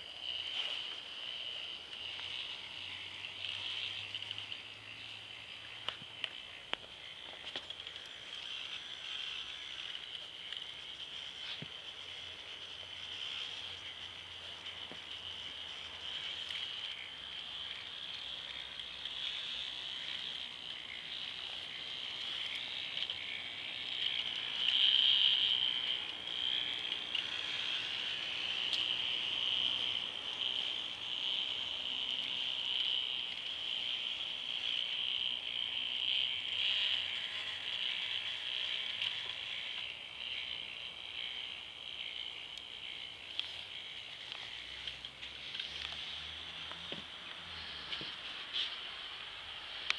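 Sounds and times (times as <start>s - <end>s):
toy car motor whine: 0.0s - 49.9s.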